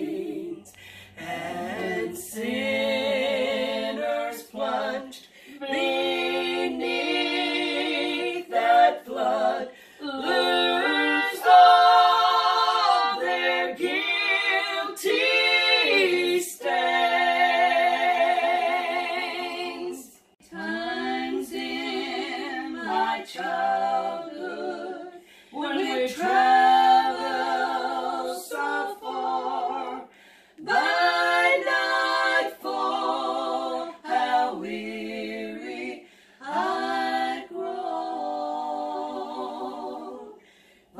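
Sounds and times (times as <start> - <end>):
women singing a cappella: 0.0 - 40.9.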